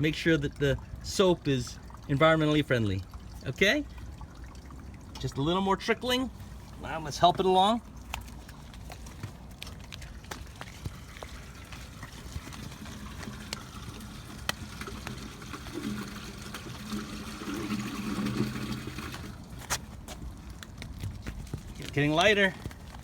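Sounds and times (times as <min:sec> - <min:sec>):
water draining through hose: 0:00.0 - 0:09.0, 0:10.5 - 0:20.0.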